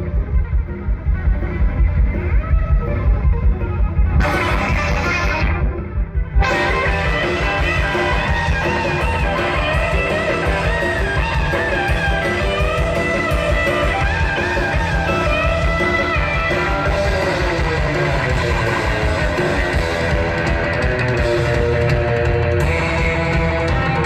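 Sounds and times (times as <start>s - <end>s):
electric guitar lead: 0.0s - 24.0s
rockabilly band playing: 0.0s - 24.0s.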